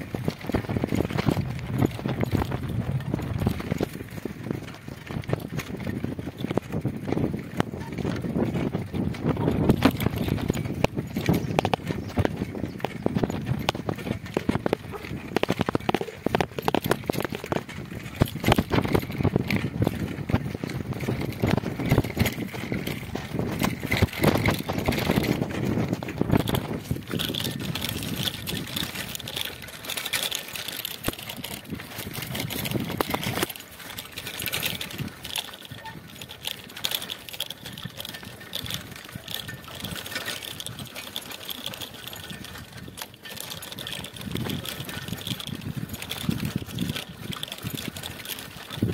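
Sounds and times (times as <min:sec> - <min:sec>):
bicycle frame rattling: 0:00.0 - 0:48.9
tyres crunching on stones: 0:00.0 - 0:48.9.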